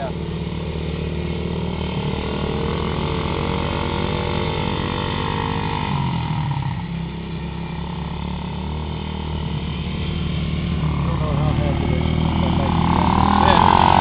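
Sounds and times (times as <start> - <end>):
small motorbike engine running: 0.0 - 14.0.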